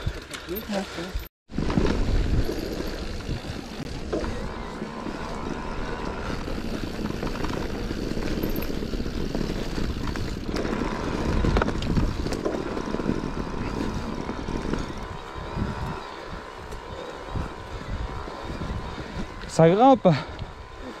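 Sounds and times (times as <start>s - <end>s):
bike tyres rolling on dirt: 0.0s - 21.0s
wind buffeting microphone: 1.5s - 21.0s.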